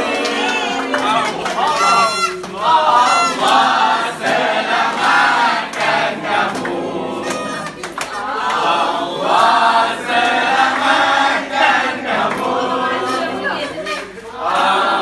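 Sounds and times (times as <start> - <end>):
crowd singing a birthday song: 0.0 - 15.0
people clapping along: 0.0 - 15.0.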